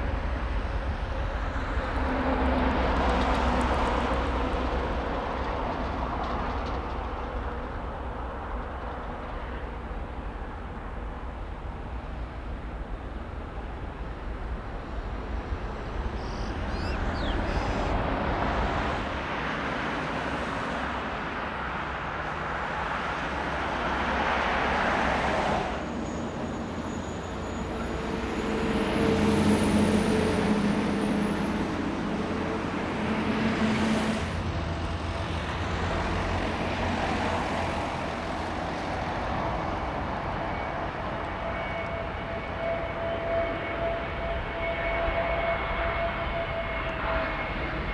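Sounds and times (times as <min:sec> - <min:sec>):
jet airliner engines: 0:00.0 - 0:47.9.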